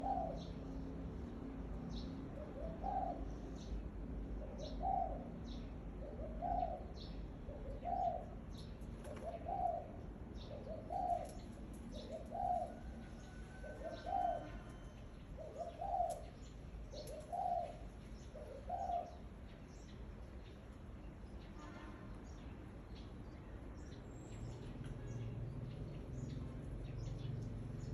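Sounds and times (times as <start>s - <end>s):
faint high chirps of small birds: 0.0s - 27.9s.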